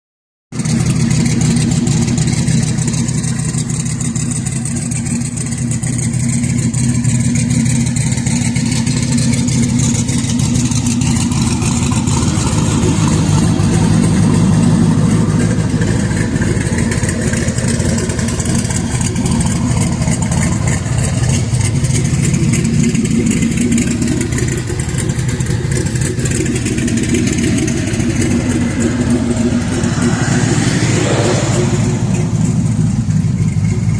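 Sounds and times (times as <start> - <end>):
car engine running at low revs: 0.5 - 33.9.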